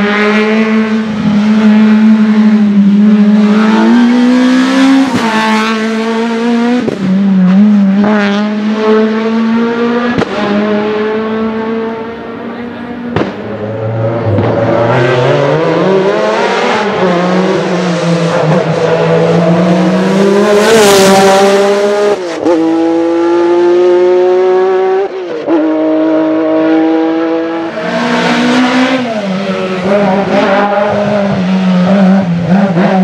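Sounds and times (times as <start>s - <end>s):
racing car engine accelerating: 0.0s - 33.0s.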